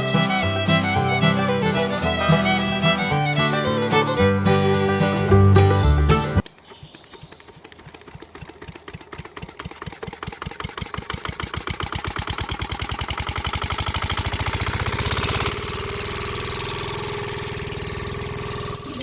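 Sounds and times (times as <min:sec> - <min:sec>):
engine chugging: 0:00.0 - 0:06.3, 0:07.2 - 0:19.0.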